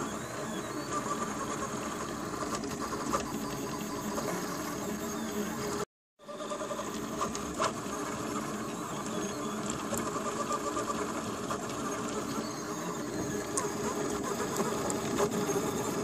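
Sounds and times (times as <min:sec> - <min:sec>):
stepper motors buzzing and chattering: 0:00.0 - 0:16.0.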